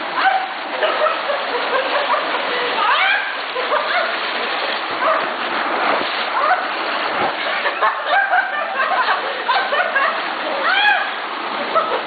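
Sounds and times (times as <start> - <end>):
whirlpool jets churning water: 0.0 - 12.0.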